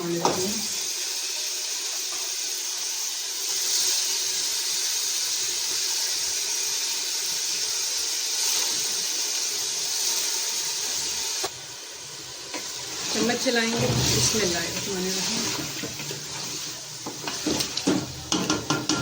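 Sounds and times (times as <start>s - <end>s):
meat sizzling in a pot: 0.0s - 19.0s.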